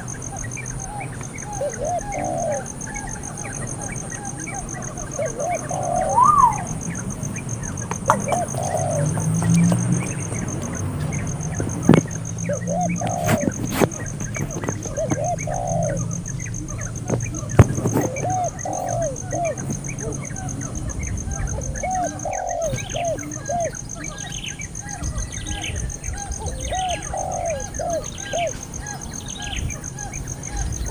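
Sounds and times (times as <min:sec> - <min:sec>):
dove-like cooing: 0:00.0 - 0:30.9.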